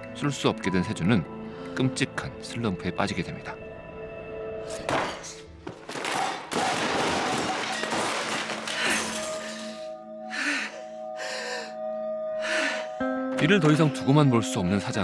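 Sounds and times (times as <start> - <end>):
dramatic music: 0.0 - 15.0.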